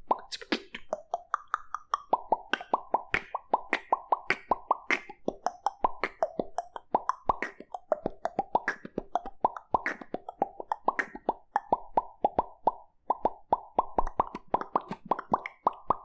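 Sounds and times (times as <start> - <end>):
beatboxing lip pops: 0.0 - 16.0
beatboxing mouth hits: 0.0 - 16.0.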